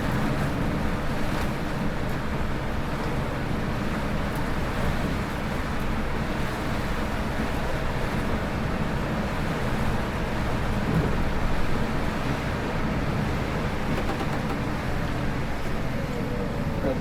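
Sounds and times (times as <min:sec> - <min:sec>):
diesel engine hum: 0:00.0 - 0:17.0.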